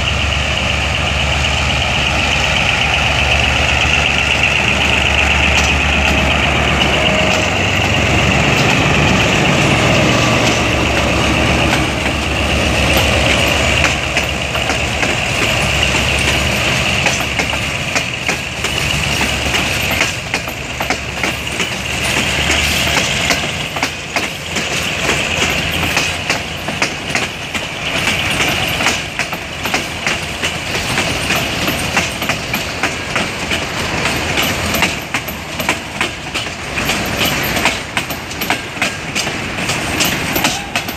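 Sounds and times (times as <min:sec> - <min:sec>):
locomotive engines running: 0:00.0 - 0:40.9
wagon wheels clattering over rails: 0:04.4 - 0:40.9.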